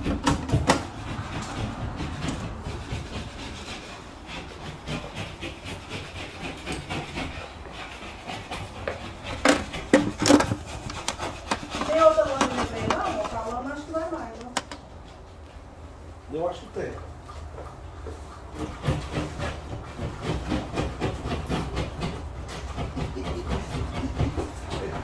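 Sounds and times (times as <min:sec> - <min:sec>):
hand rubbing and scraping: 0:00.0 - 0:16.0, 0:17.2 - 0:25.0.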